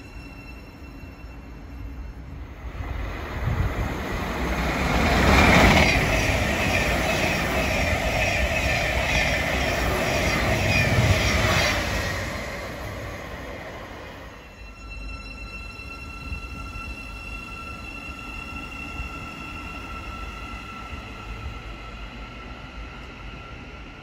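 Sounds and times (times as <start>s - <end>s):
train rumble and rail noise: 0.0s - 24.0s.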